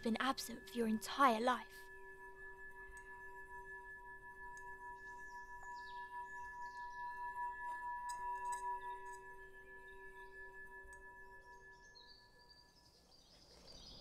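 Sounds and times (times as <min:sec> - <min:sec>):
ambient drone of ringing tones: 0:00.0 - 0:14.0
faint high chirps: 0:02.6 - 0:14.0.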